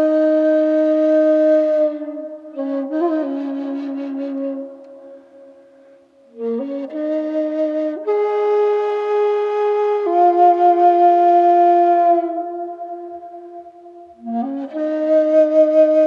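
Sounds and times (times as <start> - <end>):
flute-like wind instrument: 0.0 - 16.0.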